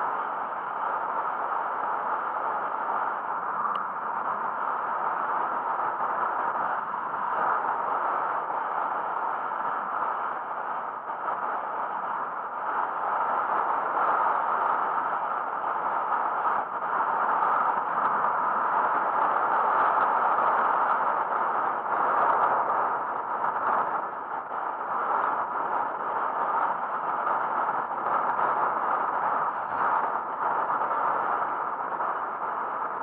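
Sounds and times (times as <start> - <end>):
rushing wind: 0.0 - 33.0
bicycle road noise: 0.3 - 33.0.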